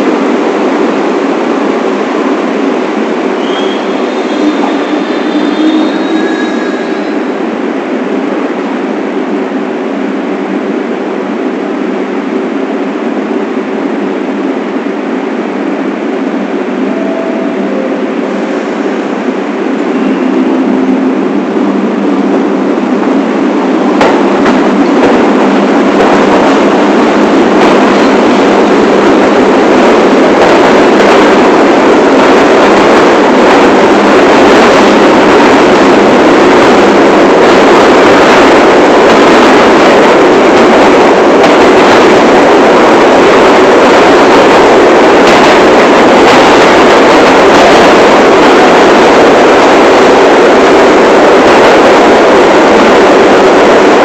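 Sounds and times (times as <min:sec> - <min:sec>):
subway train running on track: 0:00.0 - 0:54.0.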